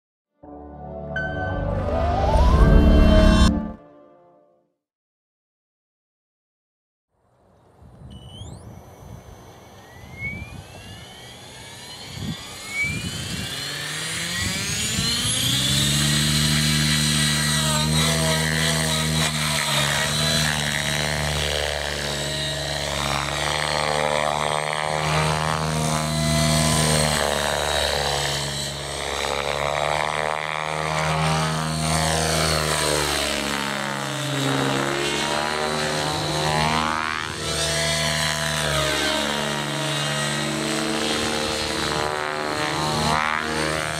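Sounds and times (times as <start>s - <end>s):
electric model helicopter whine: 7.6s - 43.9s.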